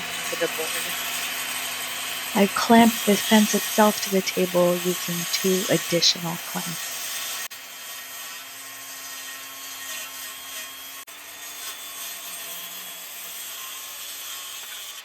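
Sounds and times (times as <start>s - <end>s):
sanding wood: 0.0s - 15.0s.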